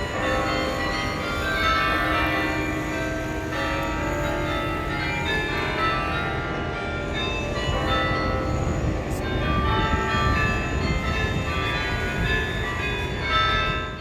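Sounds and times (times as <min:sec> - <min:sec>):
carillon bells ringing: 0:00.0 - 0:14.0.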